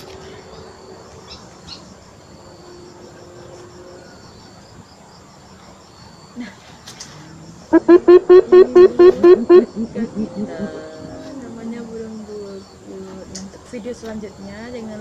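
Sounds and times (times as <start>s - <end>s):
insects trilling: 0.0s - 15.0s
low background noise: 0.0s - 15.0s.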